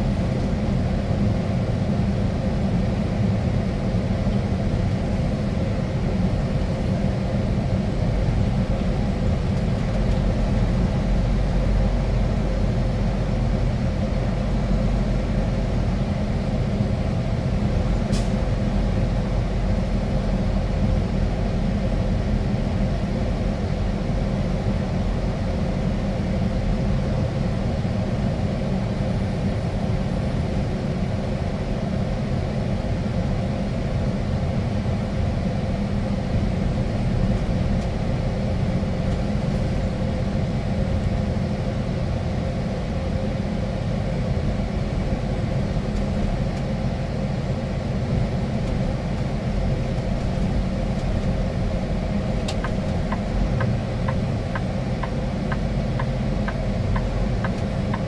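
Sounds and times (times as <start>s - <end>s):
engine and road rumble in cab: 0.0s - 58.0s.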